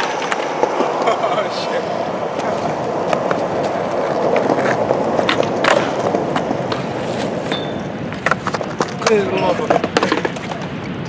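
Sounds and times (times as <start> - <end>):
skateboard clacks: 0.0 - 11.0
skateboard wheels rolling: 0.0 - 11.0.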